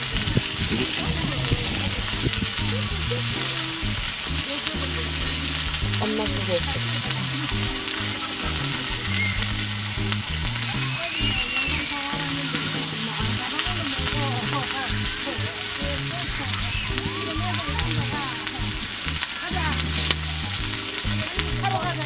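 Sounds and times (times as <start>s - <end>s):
meat sizzling on grill plate: 0.0s - 22.0s.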